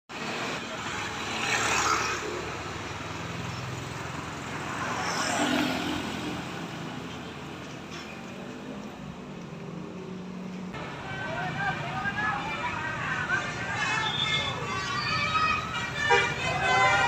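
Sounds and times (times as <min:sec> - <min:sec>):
vehicle engines humming: 0:00.1 - 0:17.0
vehicles passing close by: 0:00.1 - 0:17.0.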